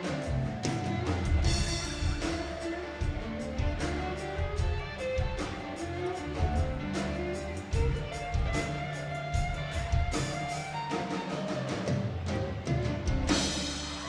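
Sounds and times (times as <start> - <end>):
fiddle: 0.0 - 14.0
guitar: 0.0 - 14.0
steady drum beat: 0.0 - 14.0.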